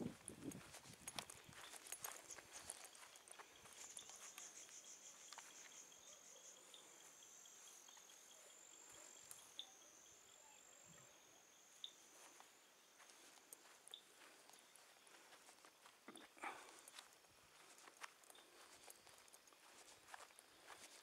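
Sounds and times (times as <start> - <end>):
high insect trill: 0.0 - 21.0
low insect ticking: 0.0 - 21.0.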